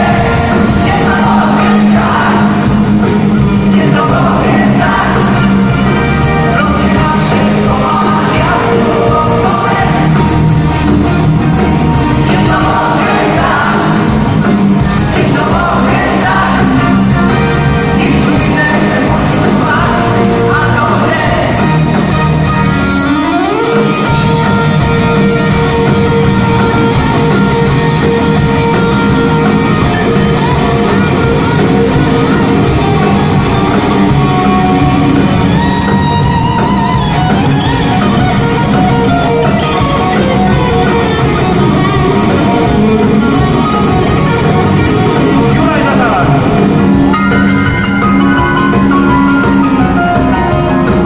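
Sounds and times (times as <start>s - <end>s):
electric guitar: 0.0s - 51.0s
live rock band playing: 0.0s - 51.0s.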